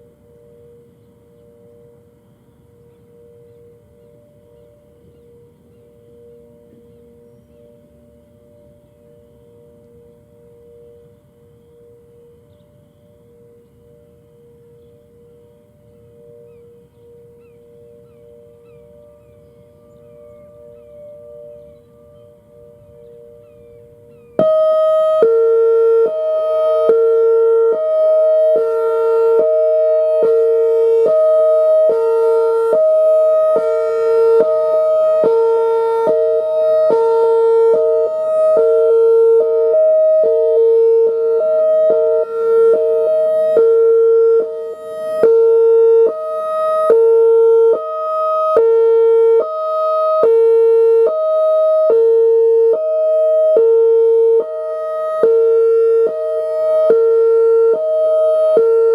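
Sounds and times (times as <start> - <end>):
two-tone warning siren: 0.0 - 58.9.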